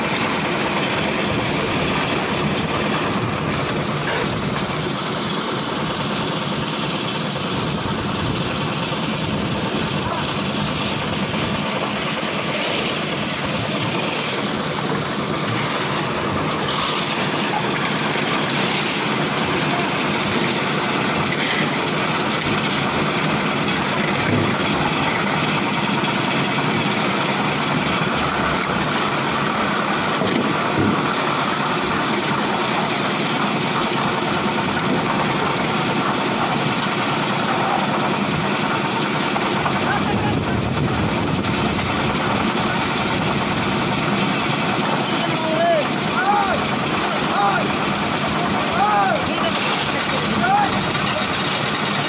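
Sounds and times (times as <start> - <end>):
concrete mixer running: 0.0 - 52.0.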